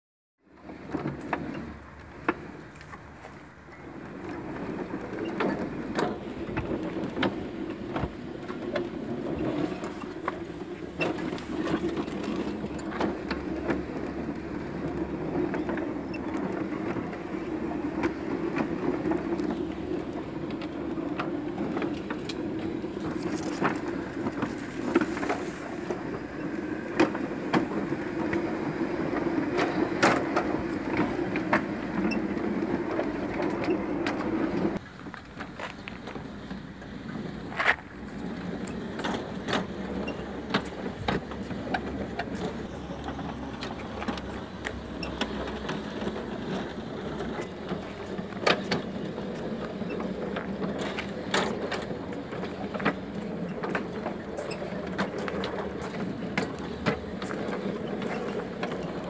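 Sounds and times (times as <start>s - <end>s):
model locomotive drive hum: 0.5s - 59.0s
wheels clicking on rails: 0.5s - 59.0s.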